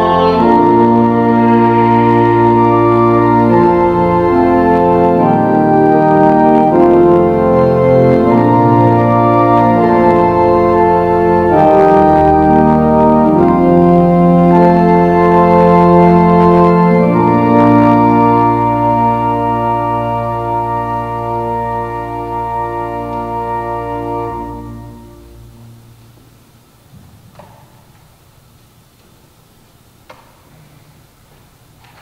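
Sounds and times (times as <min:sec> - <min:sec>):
organ playing slow chords: 0:00.0 - 0:26.8.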